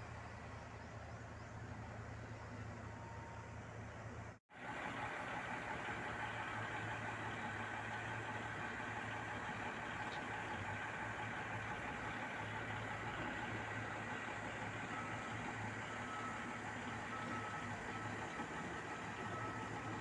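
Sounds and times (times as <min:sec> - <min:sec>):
dump truck diesel engine: 0:00.0 - 0:20.0.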